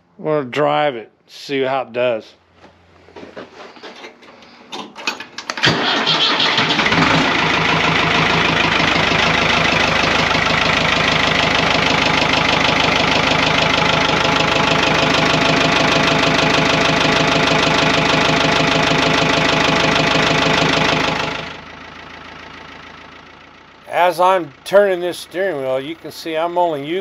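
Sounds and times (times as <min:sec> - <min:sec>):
diesel tractor engine starting: 0:03.7 - 0:27.0.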